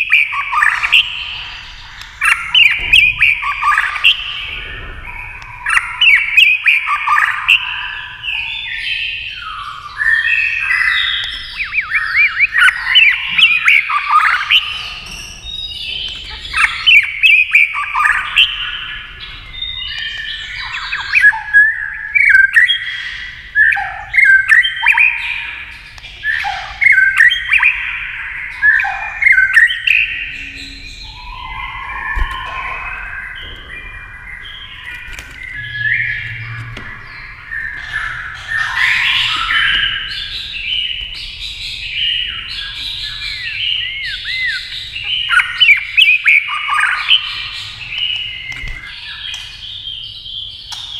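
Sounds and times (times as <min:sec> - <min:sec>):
bird singing whistled song: 0:00.0 - 0:50.9.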